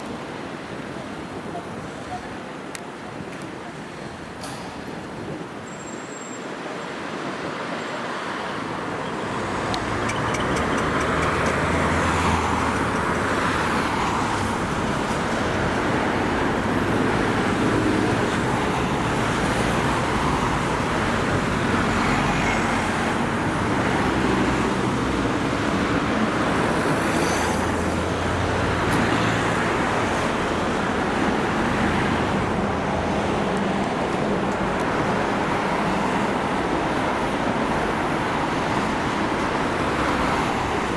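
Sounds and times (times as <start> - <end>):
vehicles driving past: 7.5 - 40.9.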